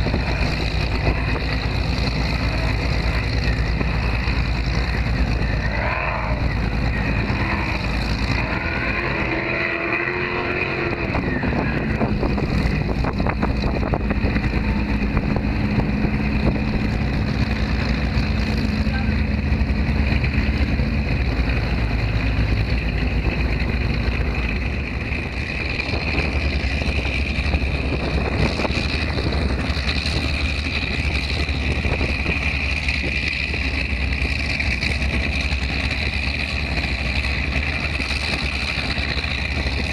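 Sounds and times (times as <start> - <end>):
powerboat engines running: 0.0 - 39.9.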